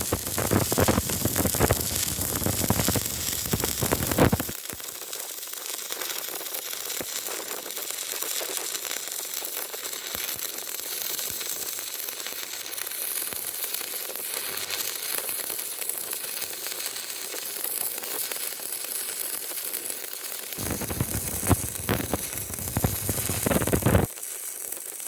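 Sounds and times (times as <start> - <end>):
welding arc crackling and hissing: 0.0 - 25.0.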